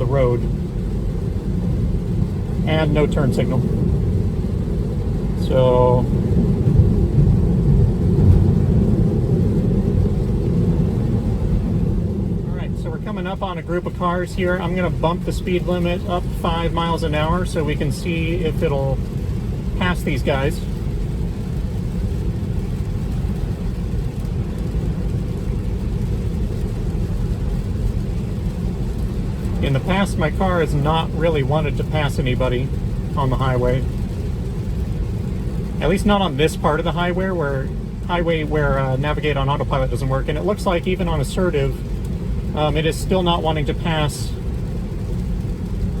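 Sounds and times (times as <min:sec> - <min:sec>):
tyre and road noise in car: 0:00.0 - 0:46.0.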